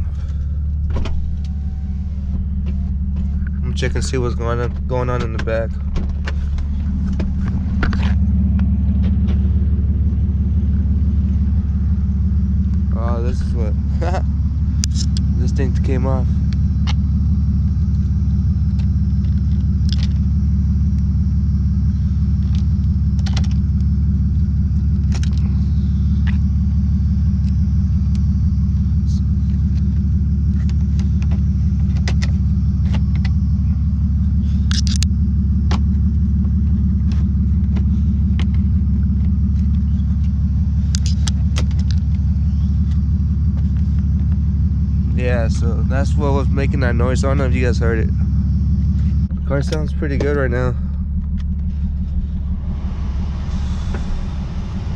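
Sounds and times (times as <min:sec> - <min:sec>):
car engine running steadily: 0:00.0 - 0:54.9.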